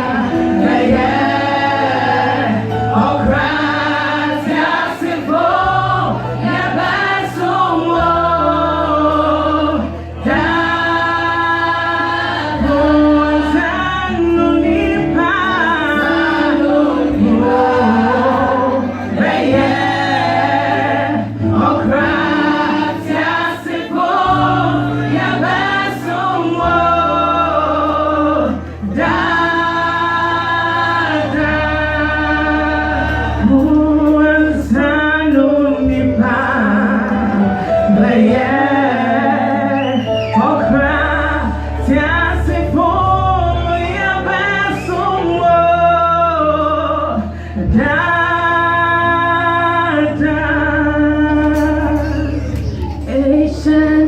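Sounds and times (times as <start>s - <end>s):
choir singing held chords: 0.0s - 46.9s
sustained bass notes: 0.0s - 54.0s.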